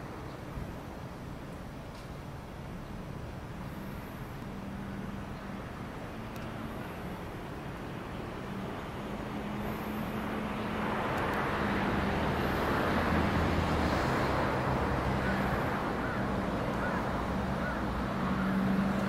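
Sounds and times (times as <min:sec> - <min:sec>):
rush of vehicle traffic: 0:00.0 - 0:19.0.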